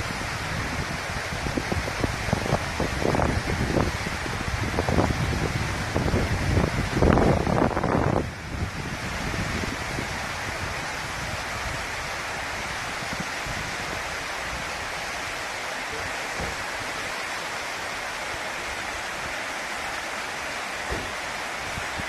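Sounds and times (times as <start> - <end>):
rush of falling water: 0.0 - 22.0.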